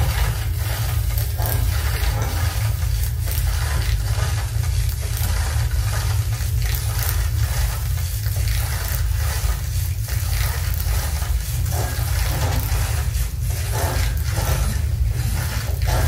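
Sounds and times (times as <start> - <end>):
deep continuous rumble: 0.0 - 16.0
dense crackling sizzling noise: 0.0 - 16.0.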